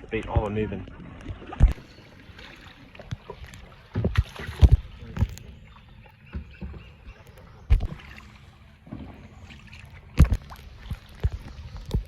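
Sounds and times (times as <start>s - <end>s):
kayak paddle splashes and knocks: 0.0s - 12.0s.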